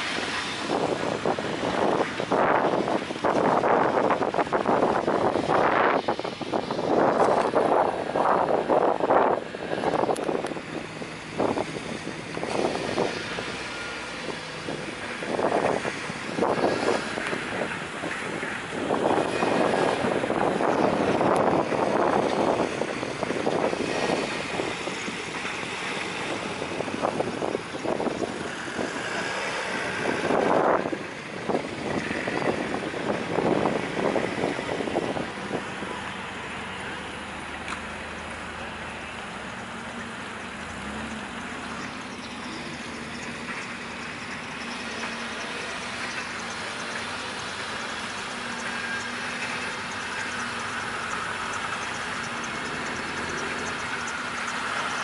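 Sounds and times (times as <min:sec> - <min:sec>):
cars driving slowly past: 0:00.0 - 0:55.0.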